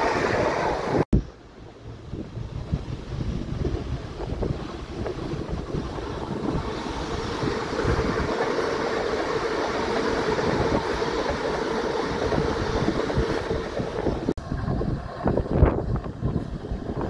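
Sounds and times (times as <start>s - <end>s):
train hum: 0.0s - 17.0s
train wheels rumbling on rails: 0.0s - 17.0s.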